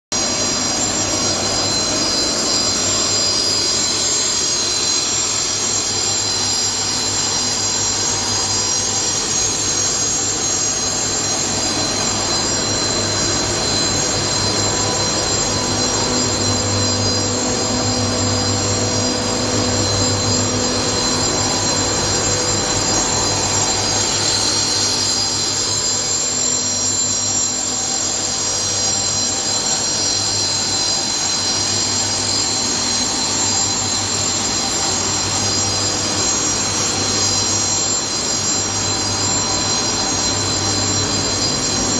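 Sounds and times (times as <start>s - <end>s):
high-pitched whining tones: 0.1s - 41.9s
grinding mill din: 0.2s - 41.9s.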